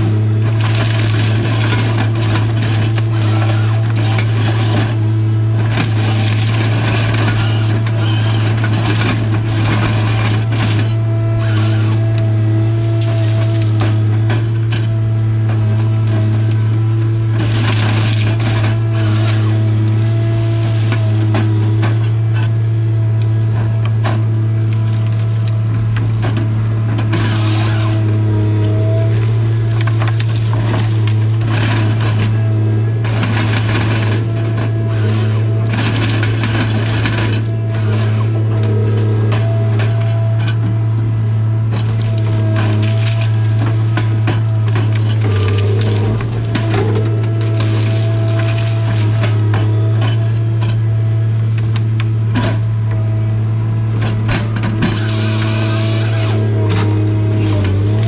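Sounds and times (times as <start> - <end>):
low engine drone: 0.0 - 58.0
branches and wood snapping: 0.2 - 58.0.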